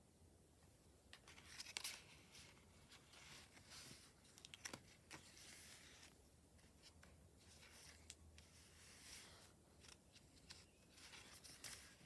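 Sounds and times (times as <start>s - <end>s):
paper rustling and crackling: 1.2s - 12.0s.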